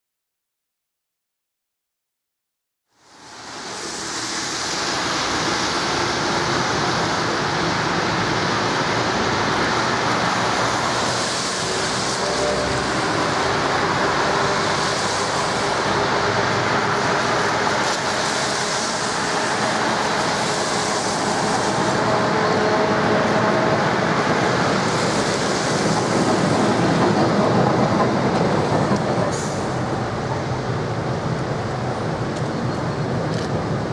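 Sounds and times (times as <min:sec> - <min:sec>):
tyres hissing on wet asphalt: 0:02.9 - 0:33.9
faint steady tram tones: 0:03.0 - 0:33.9.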